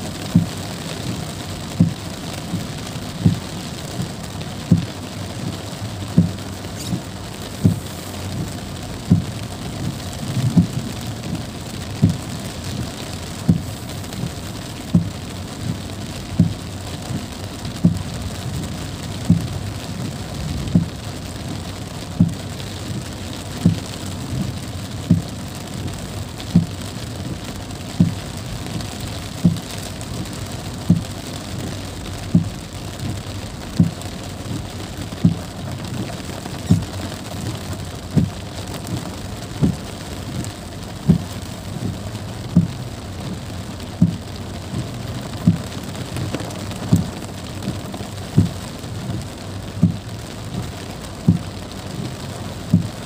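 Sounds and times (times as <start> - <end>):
heavy rain on car roof: 0.0 - 53.0
windscreen wipers thumping: 0.0 - 53.0.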